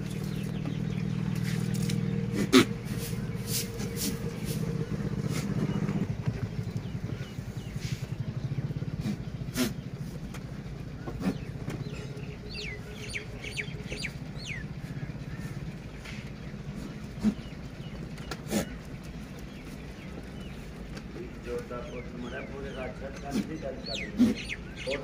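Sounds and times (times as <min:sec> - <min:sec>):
birds chirping: 0:00.0 - 0:25.0
small engine running: 0:00.0 - 0:25.0.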